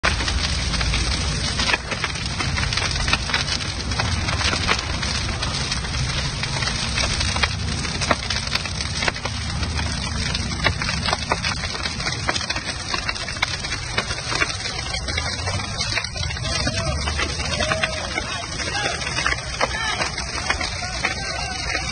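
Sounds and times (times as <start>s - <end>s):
fire crackling and popping: 0.0s - 21.9s
steady low rumble: 0.0s - 21.9s.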